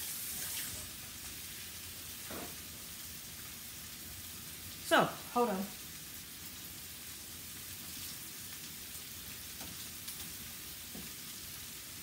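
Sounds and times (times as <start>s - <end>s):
food sizzling in skillet: 0.0s - 12.0s.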